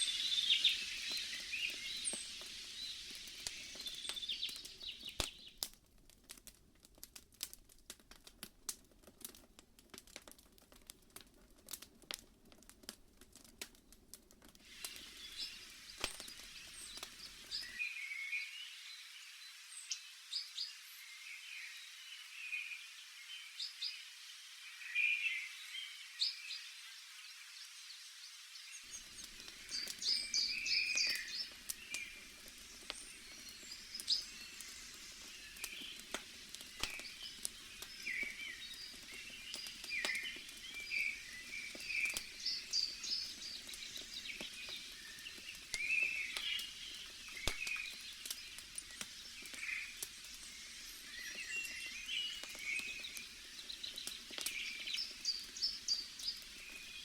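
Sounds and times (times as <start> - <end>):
small birds chirping: 0.0 - 5.8, 14.6 - 57.0
campfire crackling: 0.0 - 20.7, 28.6 - 57.0
low steady hiss: 0.0 - 57.0.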